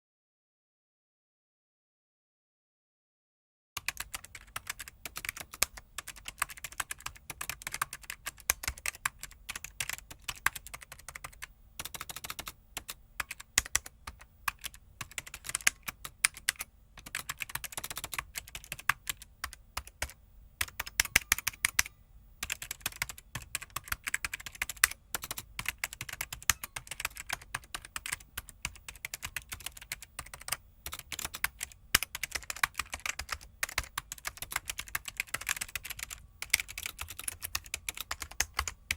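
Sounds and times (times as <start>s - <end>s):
fast keyboard typing: 3.8s - 38.9s.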